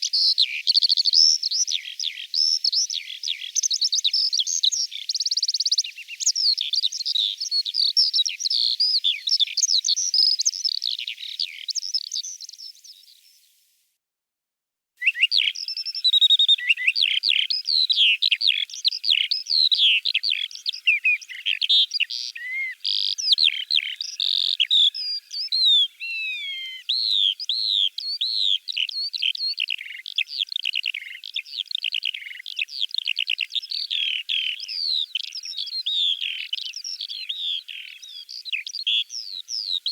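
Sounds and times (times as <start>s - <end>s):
skylark singing trills: 0.0s - 13.4s, 15.0s - 39.9s.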